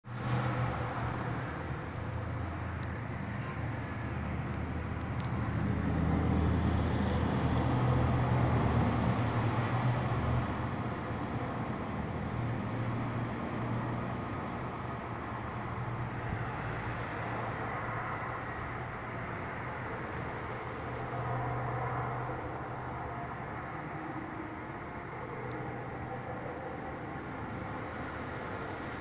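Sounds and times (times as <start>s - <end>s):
highway traffic roar: 0.0s - 29.0s.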